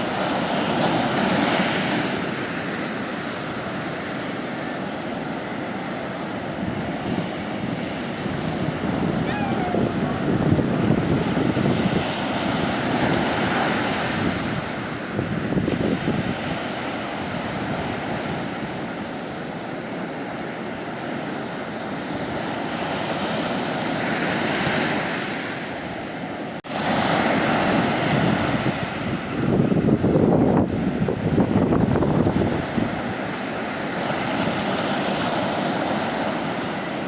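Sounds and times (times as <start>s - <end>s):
sea waves breaking on beach: 0.0s - 37.0s.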